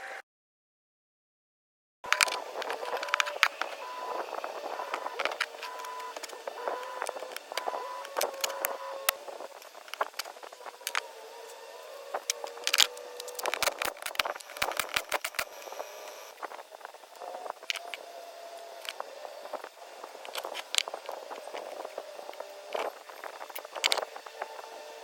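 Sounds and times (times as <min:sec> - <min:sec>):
steady hum: 0:02.1 - 0:25.0.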